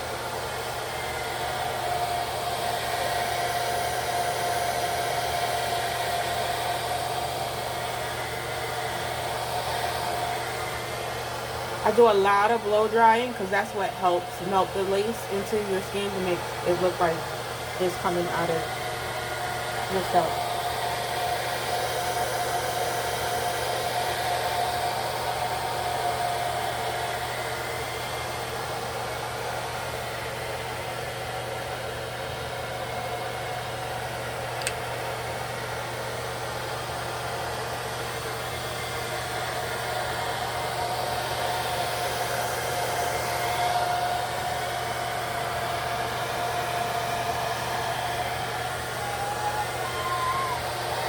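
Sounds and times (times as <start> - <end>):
hair dryer running: 0.0 - 51.0.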